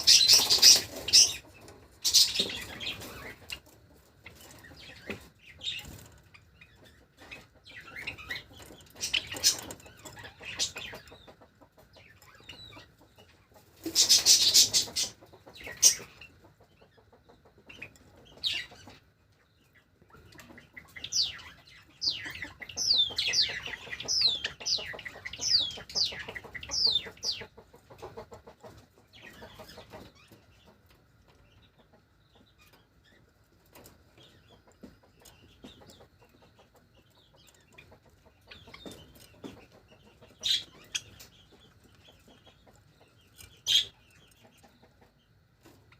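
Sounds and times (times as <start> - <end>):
sparrows chirping: 0.0 - 45.9.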